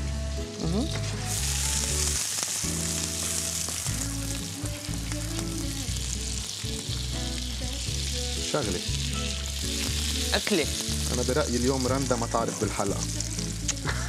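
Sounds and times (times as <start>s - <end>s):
bread sizzling in frying pan: 0.0s - 14.0s.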